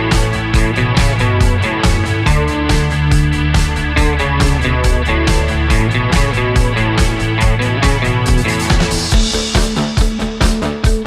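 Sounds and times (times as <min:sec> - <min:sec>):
rock guitar: 0:00.0 - 0:11.0
steady drum beat: 0:00.0 - 0:11.0.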